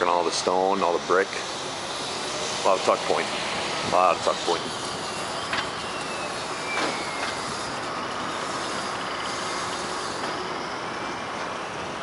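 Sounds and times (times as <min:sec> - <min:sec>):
faint high falling squeals: 0:00.0 - 0:12.0
outdoor background noise: 0:00.0 - 0:12.0.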